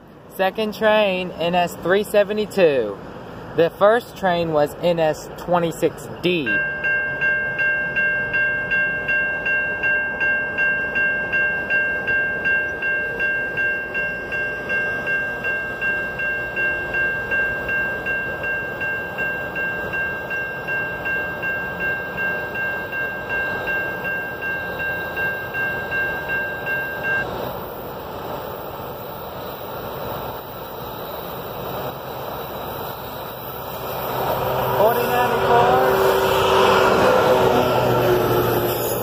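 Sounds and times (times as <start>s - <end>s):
crossing bell ringing: 3.6s - 27.4s, 31.3s - 39.0s.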